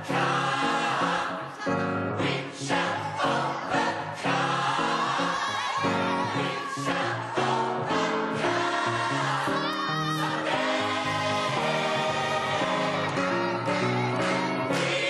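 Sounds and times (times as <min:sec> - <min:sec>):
backing music: 0:00.0 - 0:15.0
gospel choir singing: 0:00.0 - 0:15.0.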